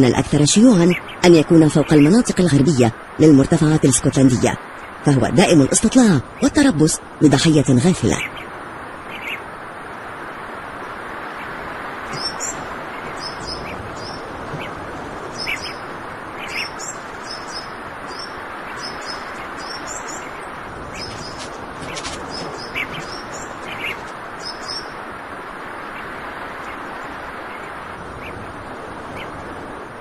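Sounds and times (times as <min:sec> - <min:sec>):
birds chirping: 0:00.0 - 0:30.0
steady rushing noise: 0:00.0 - 0:30.0.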